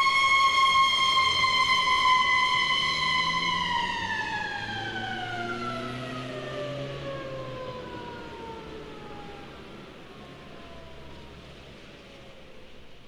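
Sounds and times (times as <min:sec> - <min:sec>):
police siren wailing: 0:00.0 - 0:12.9.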